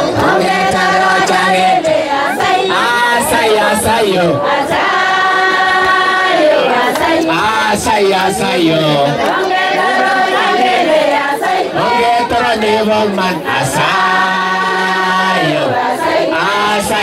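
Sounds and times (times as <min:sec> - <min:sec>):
group singing in chorus: 0:00.0 - 0:17.0.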